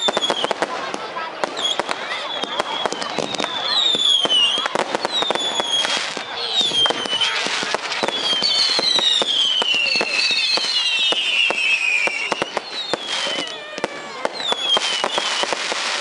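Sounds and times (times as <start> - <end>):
firework whistles gliding down: 0.0 - 0.6, 1.5 - 16.0
firework bangs and crackles: 0.0 - 16.0.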